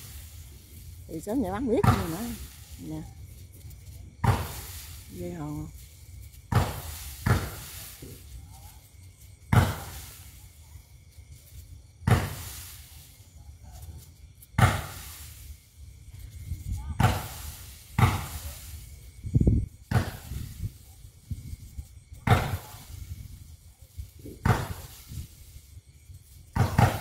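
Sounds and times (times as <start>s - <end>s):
fireworks bangs: 0.0s - 10.6s, 12.0s - 13.2s, 13.9s - 27.0s.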